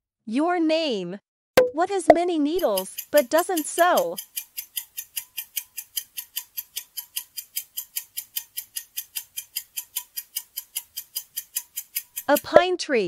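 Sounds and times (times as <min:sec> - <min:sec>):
clock ticking: 0:01.6 - 0:12.8.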